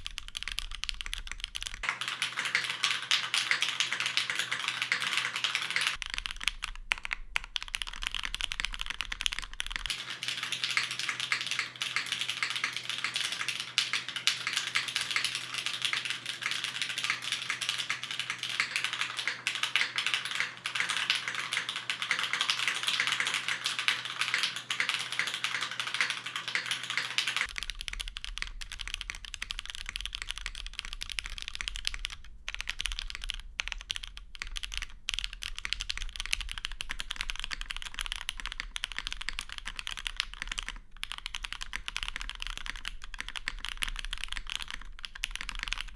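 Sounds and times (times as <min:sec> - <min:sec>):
mechanical keyboard typing: 0:00.0 - 0:45.9.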